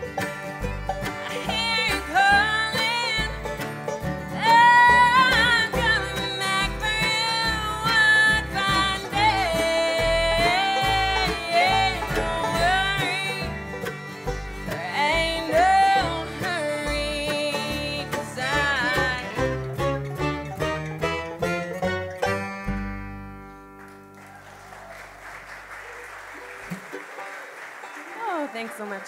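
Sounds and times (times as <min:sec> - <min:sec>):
bluegrass band playing: 0:00.0 - 0:29.0.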